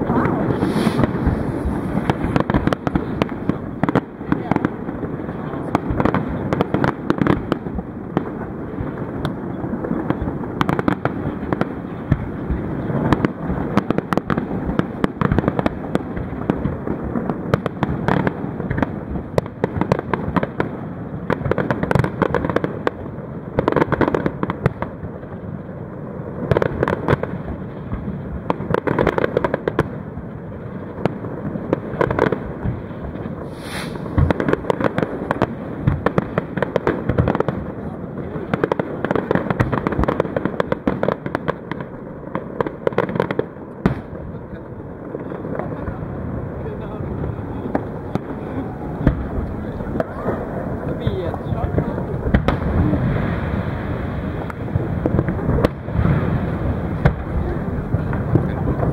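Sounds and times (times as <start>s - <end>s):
fireworks bursting and crackling: 0.0s - 58.9s.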